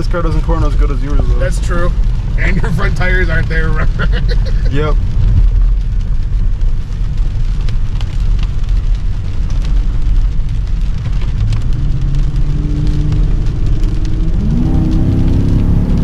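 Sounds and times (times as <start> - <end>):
car engine running: 0.0 - 16.0
rain hiss: 0.0 - 16.0.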